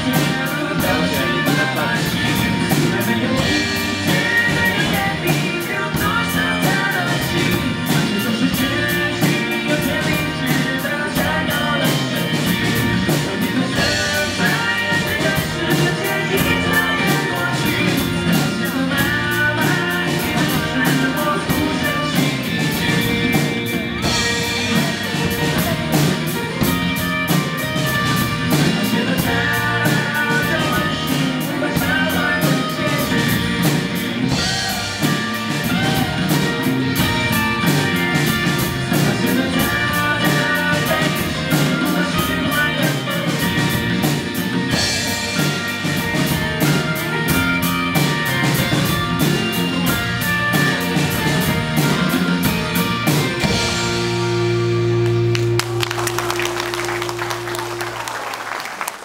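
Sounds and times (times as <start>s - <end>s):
drum kit cymbal beat: 0.0s - 58.0s
electric guitar: 0.0s - 58.3s
bass guitar: 0.0s - 58.8s.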